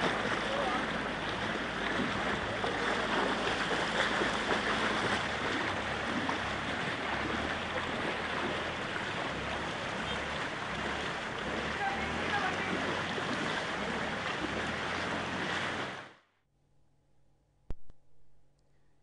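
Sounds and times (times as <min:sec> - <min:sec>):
floodwater rushing: 0:00.0 - 0:16.2.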